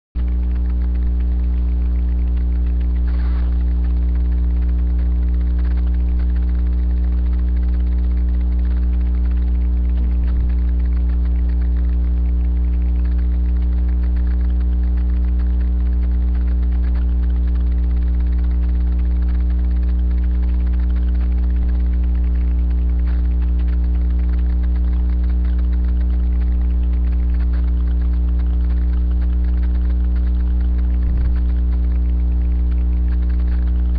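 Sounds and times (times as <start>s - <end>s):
electrical mains hum: 0.2s - 33.9s.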